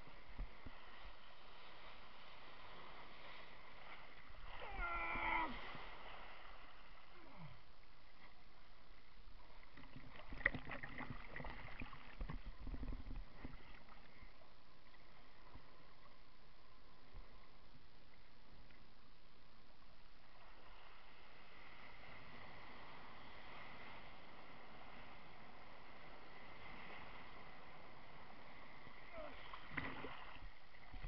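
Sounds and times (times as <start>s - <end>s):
wind and water noise: 0.0s - 31.0s.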